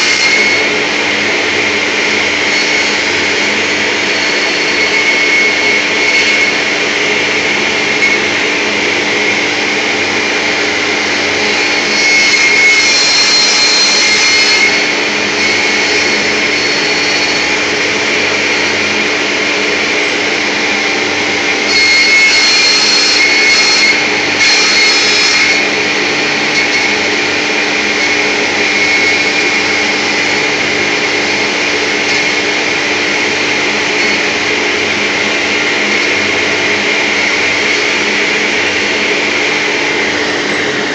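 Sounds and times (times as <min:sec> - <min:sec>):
lathe humming and whining: 0:00.0 - 0:40.9.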